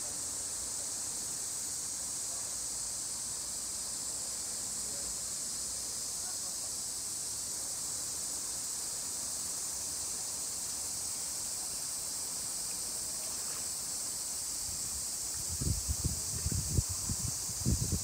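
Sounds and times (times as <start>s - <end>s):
high-pitched outdoor hiss: 0.0s - 18.0s.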